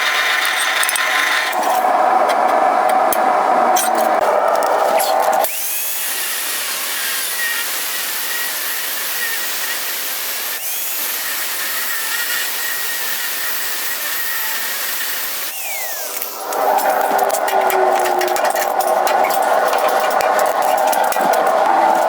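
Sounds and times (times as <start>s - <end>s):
angle grinder cutting steel: 0.0s - 3.1s, 3.8s - 22.0s.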